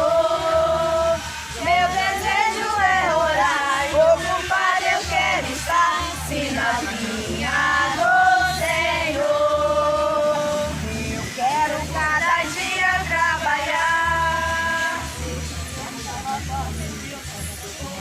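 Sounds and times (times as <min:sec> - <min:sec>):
steady bass accompaniment: 0:00.0 - 0:18.0
voices singing: 0:00.0 - 0:18.0.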